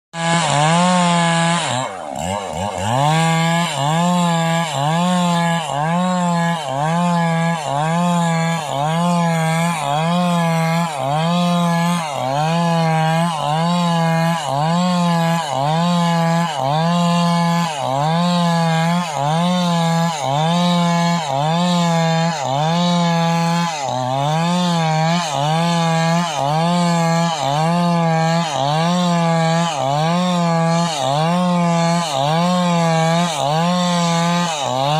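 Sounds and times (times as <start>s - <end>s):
chainsaw cutting a log: 0.1s - 34.9s.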